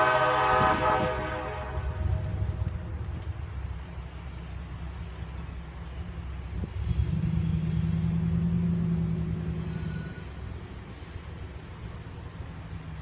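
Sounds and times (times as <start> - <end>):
diesel locomotives rumbling: 0.0 - 13.0.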